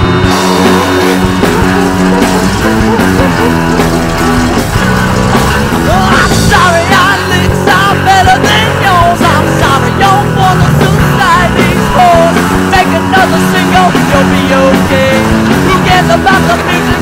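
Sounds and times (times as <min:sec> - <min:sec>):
rock music with guitar: 0:00.0 - 0:17.0
person singing: 0:00.1 - 0:17.0.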